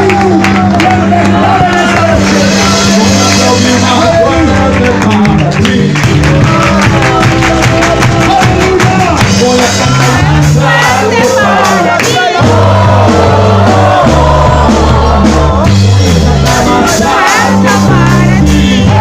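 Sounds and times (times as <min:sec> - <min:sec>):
band with steady bass line: 0:00.0 - 0:19.0
group singing praise song: 0:00.0 - 0:19.0.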